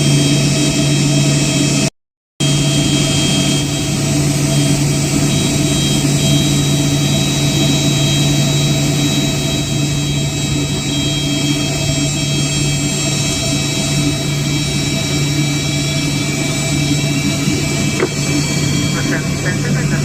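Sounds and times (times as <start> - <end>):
jet engines humming and whining: 0.0 - 20.0.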